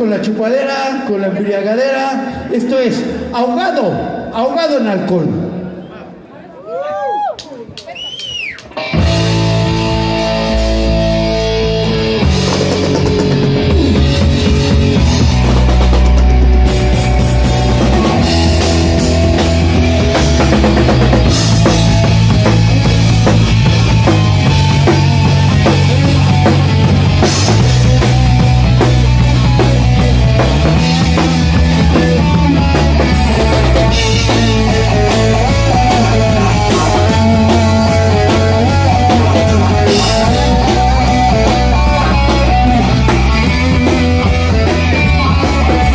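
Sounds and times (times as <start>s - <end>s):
drum kit with cymbals: 8.6s - 45.9s
electric guitar: 8.6s - 45.9s.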